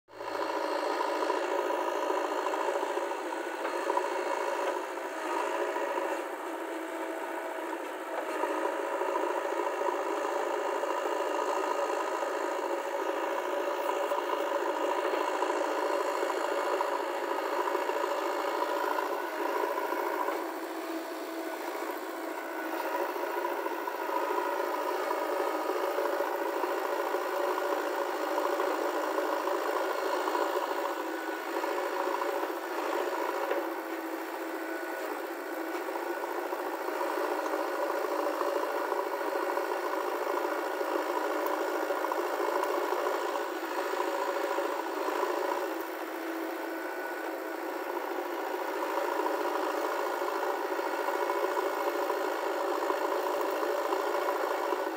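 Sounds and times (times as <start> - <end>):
diesel engine running: 0.1 - 54.9.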